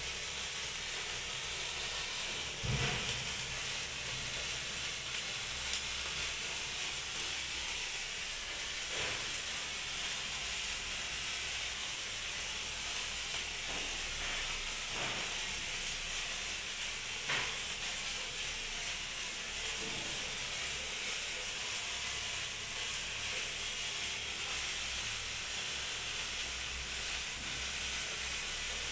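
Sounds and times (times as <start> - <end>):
sparkler crackles: 0.0 - 28.9
sparkler fizzing: 0.0 - 28.9.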